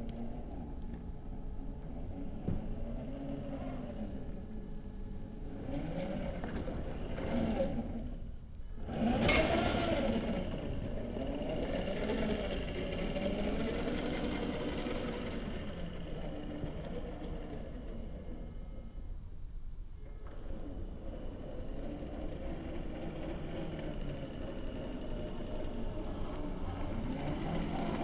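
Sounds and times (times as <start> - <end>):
toy car electric motor whine: 0.0 - 28.0.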